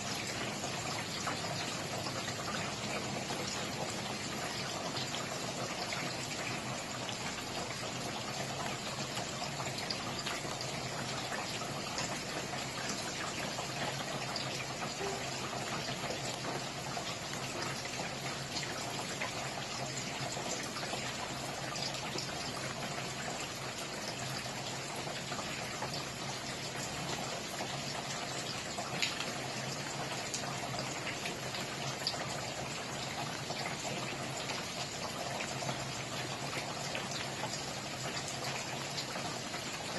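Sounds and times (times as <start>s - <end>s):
raindrops ticking: 0.0s - 39.9s
steady rain: 0.0s - 39.9s.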